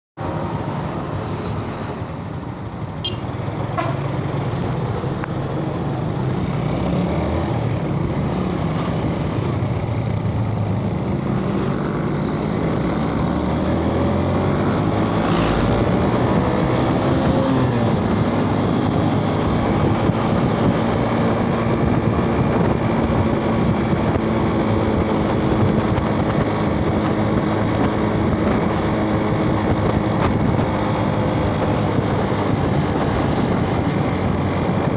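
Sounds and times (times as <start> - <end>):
road traffic: 0.2 - 34.9
wind rush: 4.2 - 34.9.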